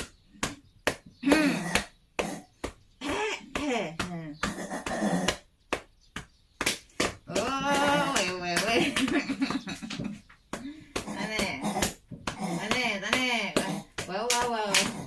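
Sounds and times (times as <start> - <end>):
hand slapping on back: 0.0 - 15.0.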